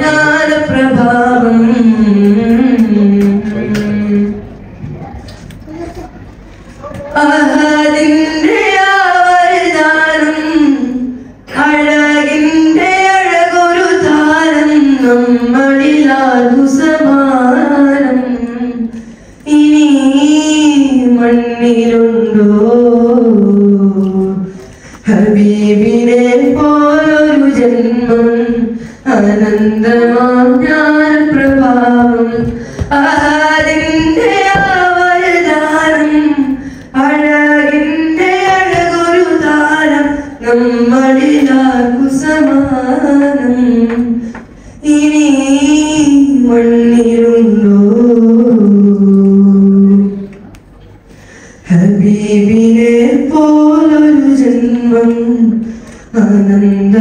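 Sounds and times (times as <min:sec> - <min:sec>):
boy singing into a microphone: 0:00.0 - 0:50.7, 0:51.6 - 0:57.0.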